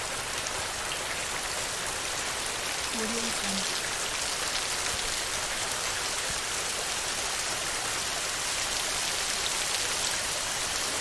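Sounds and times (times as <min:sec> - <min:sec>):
heavy rain on a metal roof: 0:00.0 - 0:11.0.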